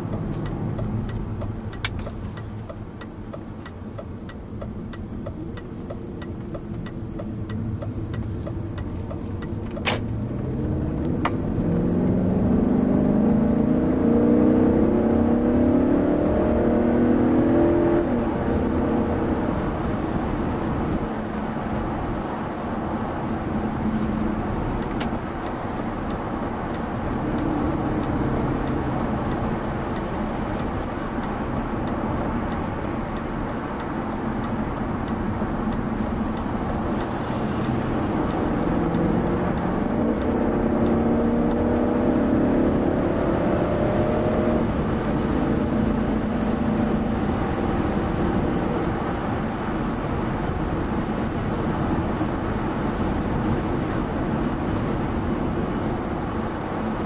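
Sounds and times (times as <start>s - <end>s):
car engine hum: 0.0s - 57.0s
tyre and road noise: 0.0s - 57.0s.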